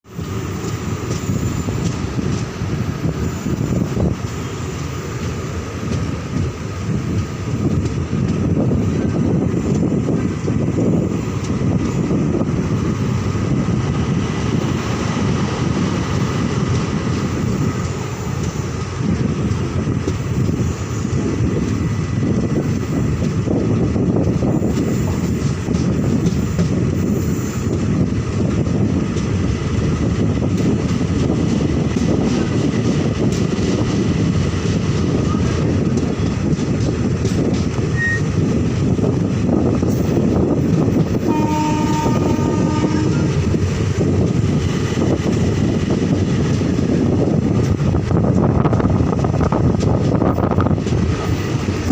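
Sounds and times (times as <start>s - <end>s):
rapid train clatter: 0.0s - 51.9s
train wheels rumbling on rails: 0.0s - 51.9s.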